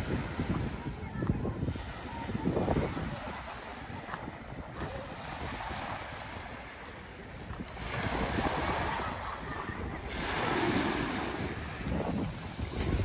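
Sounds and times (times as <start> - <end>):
waves lapping on pebble shore: 0.0 - 13.0
wind on microphone: 0.0 - 13.0.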